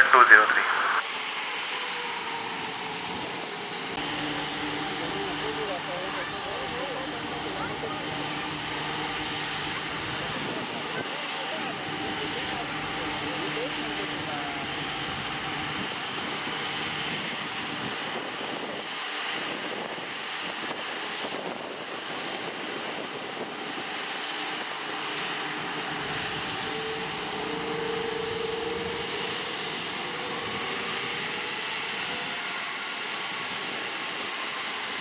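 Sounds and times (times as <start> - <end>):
jet engines rushing: 0.0 - 35.0.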